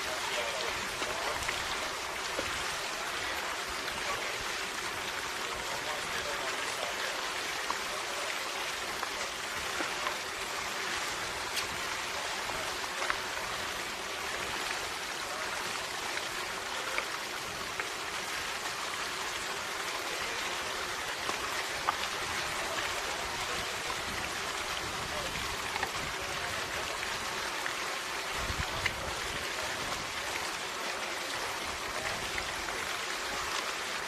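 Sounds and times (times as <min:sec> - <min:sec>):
steady hiss with faint ticks: 0:00.0 - 0:34.0.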